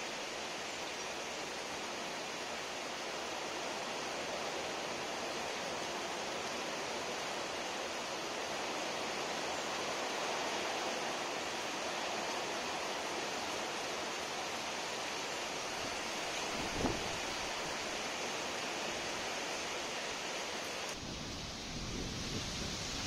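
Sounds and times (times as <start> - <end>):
rain falling on trees: 0.0 - 23.0.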